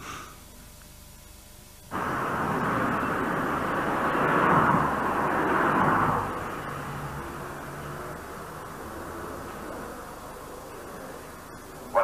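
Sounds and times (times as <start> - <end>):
car driving past: 1.9 - 12.0.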